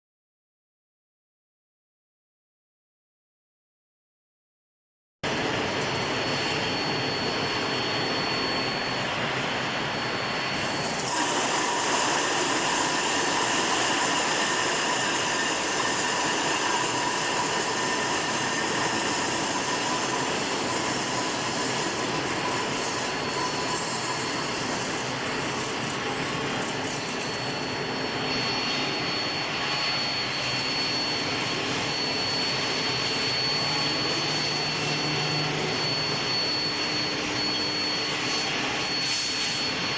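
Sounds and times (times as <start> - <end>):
high-pitched whine: 5.2 - 39.9.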